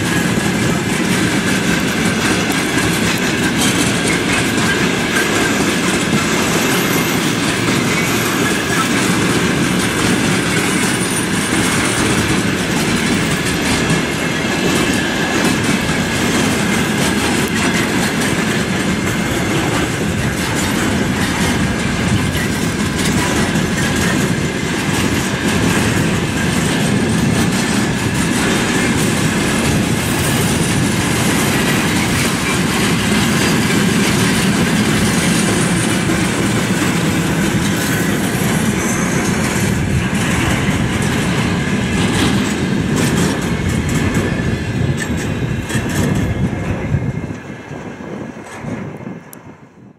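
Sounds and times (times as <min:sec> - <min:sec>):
freight train wheels clattering: 0:00.0 - 0:49.9.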